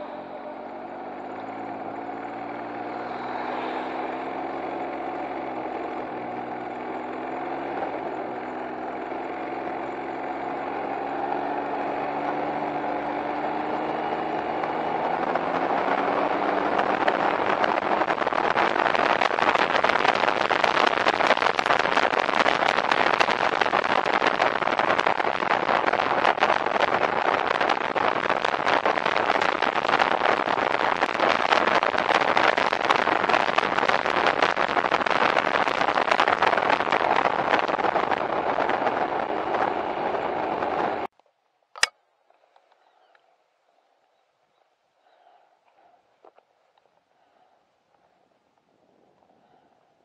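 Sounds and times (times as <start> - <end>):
engine running at low revs: 0.0 - 41.1
rushing wind and road noise: 0.0 - 41.1.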